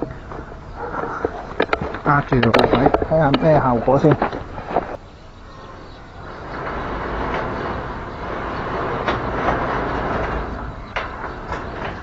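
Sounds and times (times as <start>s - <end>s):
sliding gate rumbling on track: 0.0s - 12.0s
gate knocks: 1.2s - 12.0s.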